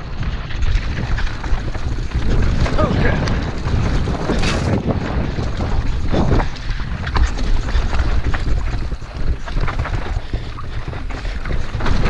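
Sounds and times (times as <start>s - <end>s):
bike knocking and rattling: 0.0s - 12.0s
low rumble of bike: 0.0s - 12.0s
wind buffeting microphone: 0.0s - 12.0s.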